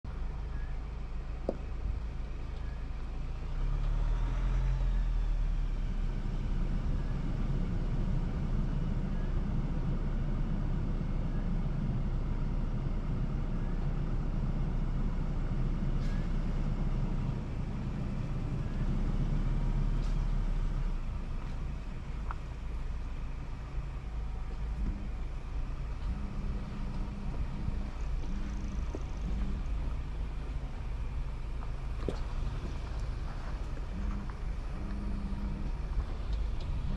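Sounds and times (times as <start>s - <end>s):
truck engine rumbling: 0.0s - 36.9s.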